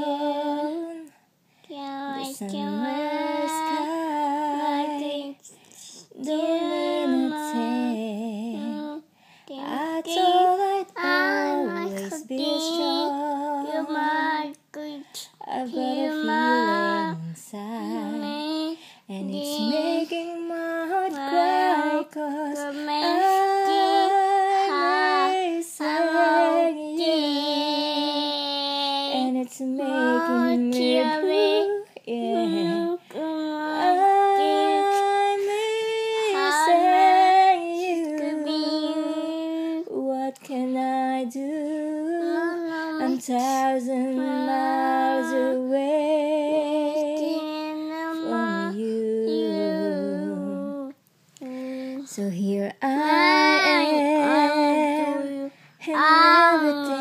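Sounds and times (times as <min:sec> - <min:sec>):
woman singing unaccompanied: 0:00.0 - 0:01.2, 0:02.0 - 0:57.0.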